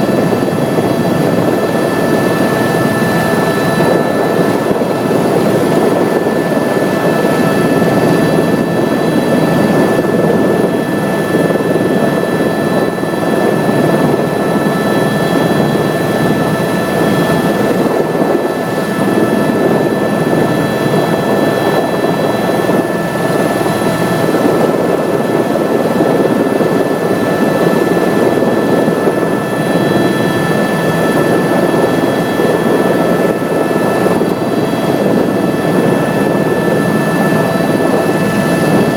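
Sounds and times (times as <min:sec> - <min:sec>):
helicopter cabin rumble: 0:00.0 - 0:38.9.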